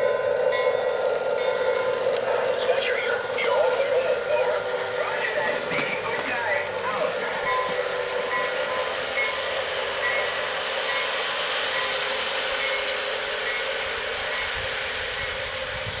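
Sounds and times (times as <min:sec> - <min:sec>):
model train running: 0:00.0 - 0:16.0.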